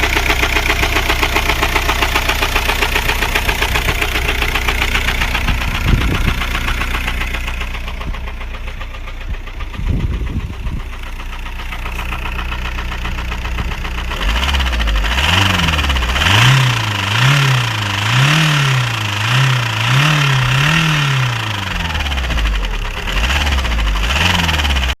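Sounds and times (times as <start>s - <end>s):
knocking diesel engine revving: 0.0s - 25.0s.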